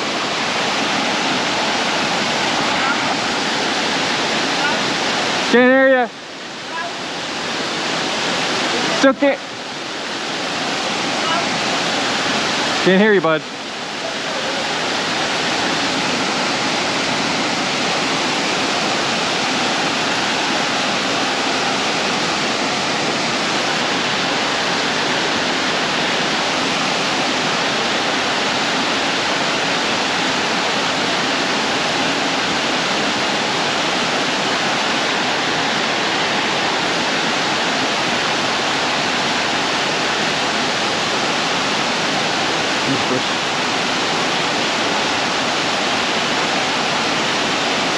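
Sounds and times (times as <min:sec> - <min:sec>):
creek water rushing: 0:00.0 - 0:47.9.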